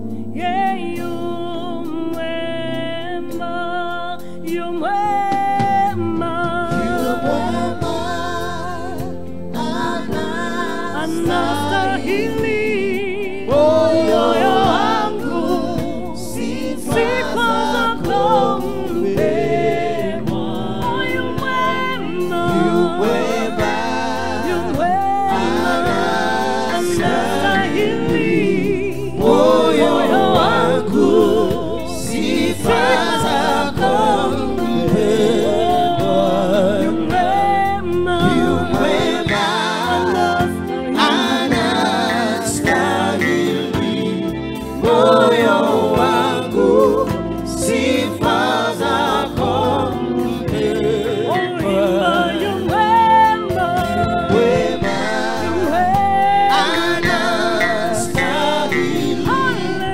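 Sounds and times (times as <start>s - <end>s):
live band with keyboard: 0.0s - 59.9s
woman singing lead: 0.0s - 59.9s
backing singers: 5.6s - 59.9s.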